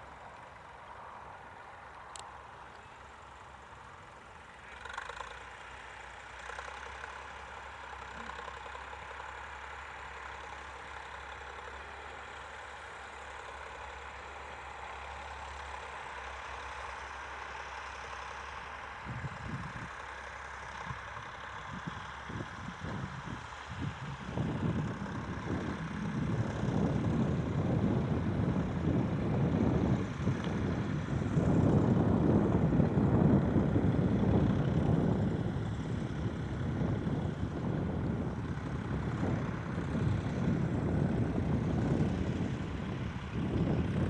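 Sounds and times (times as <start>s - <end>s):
distant tractor engine: 0.0s - 44.0s.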